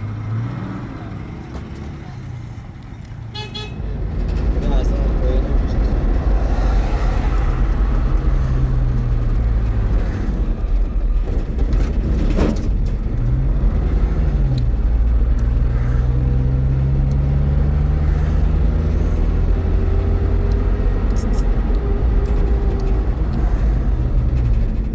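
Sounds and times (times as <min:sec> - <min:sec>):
motor vehicle engine rumbling: 0:00.0 - 0:24.9.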